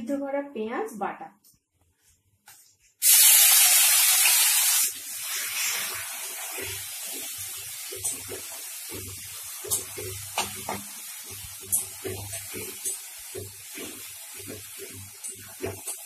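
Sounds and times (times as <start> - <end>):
onion paste sizzling in oil: 3.0 - 16.0.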